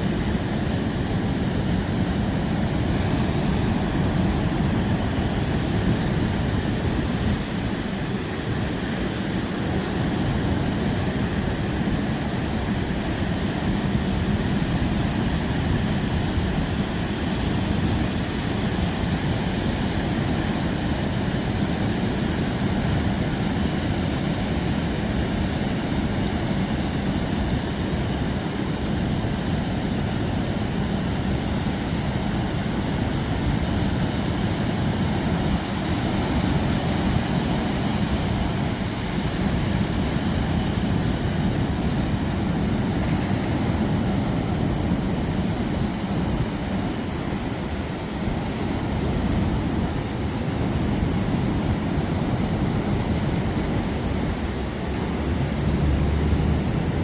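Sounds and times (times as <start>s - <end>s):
ocean surf: 0.0s - 57.0s
wind: 0.0s - 57.0s.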